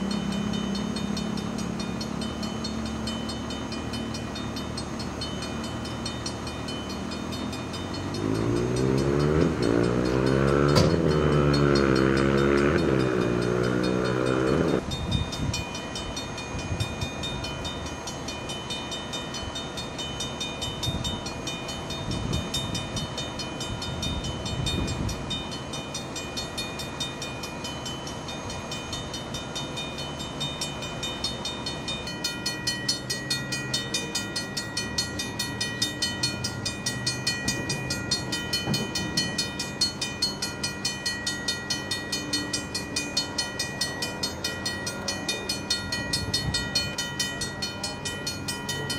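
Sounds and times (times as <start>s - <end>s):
railroad crossing bell ringing: 0.0s - 48.9s.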